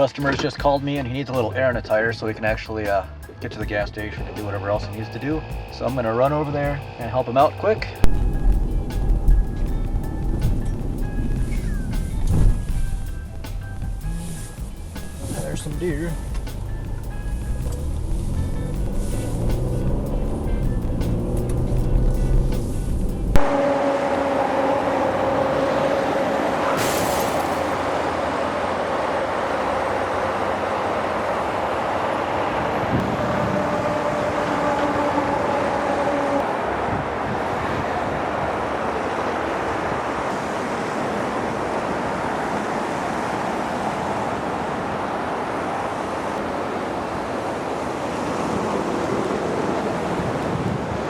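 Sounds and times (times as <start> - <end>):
road and engine noise: 0.0 - 51.0.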